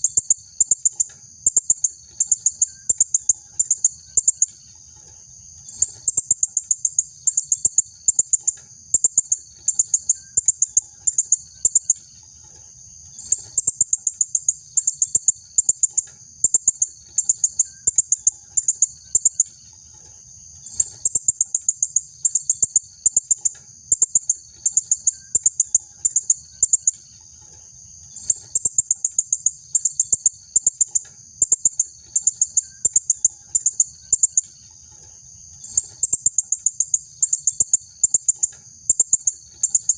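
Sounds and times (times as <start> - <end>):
steady high insect hiss: 0.0 - 39.9.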